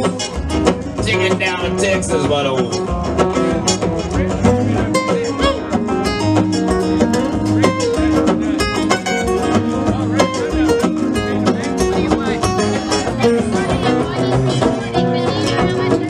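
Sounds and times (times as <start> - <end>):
acoustic guitar blues strumming: 0.0 - 16.0
picked guitar notes: 0.0 - 16.0.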